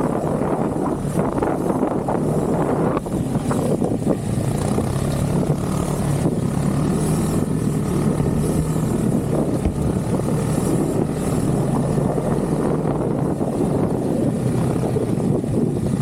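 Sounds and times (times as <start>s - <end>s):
snowmobile engine droning: 0.0s - 16.0s.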